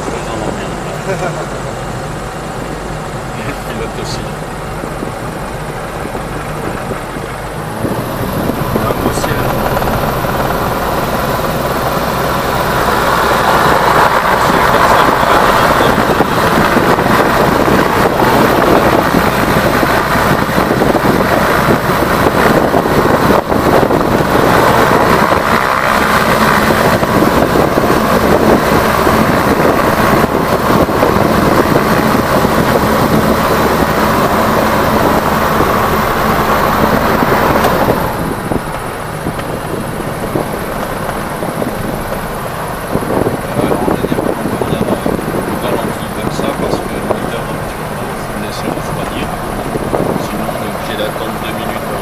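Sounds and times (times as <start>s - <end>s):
propeller engine running: 0.0s - 52.0s
wind: 0.0s - 52.0s.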